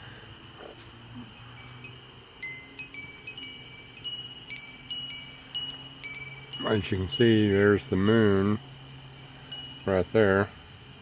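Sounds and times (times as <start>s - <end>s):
wind chimes ringing: 1.3s - 11.0s.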